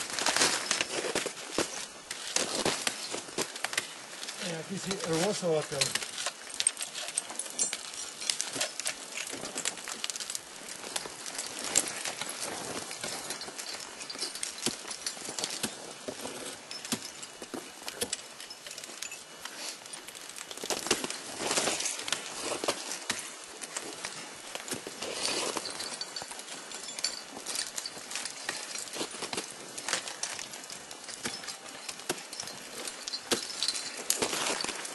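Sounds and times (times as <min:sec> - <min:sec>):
metal climbing gear clinking on ice: 0:00.0 - 0:34.9.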